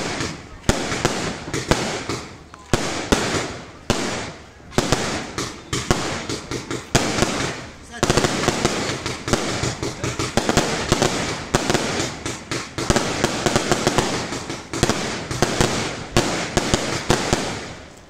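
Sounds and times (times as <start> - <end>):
fireworks cracking and popping: 0.0 - 18.0.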